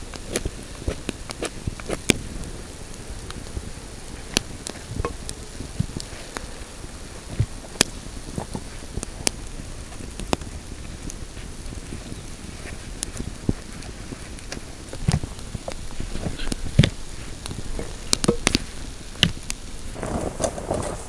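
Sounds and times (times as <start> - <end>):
campfire crackling: 0.0 - 21.0
sharp pops of fire: 0.0 - 21.0.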